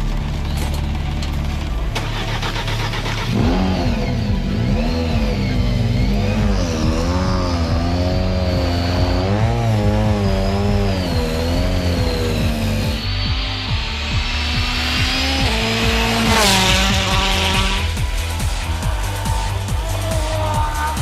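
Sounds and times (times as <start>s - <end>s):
low steady engine note: 0.0s - 21.0s
rally car engine revving: 0.0s - 21.0s.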